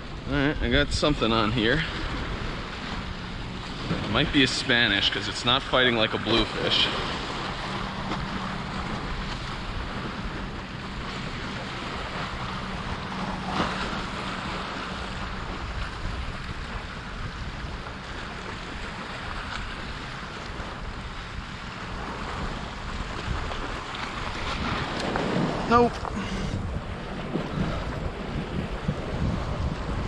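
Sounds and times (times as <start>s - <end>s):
ocean surf washing on beach: 0.0s - 30.0s
wind noise on microphone: 0.0s - 30.0s.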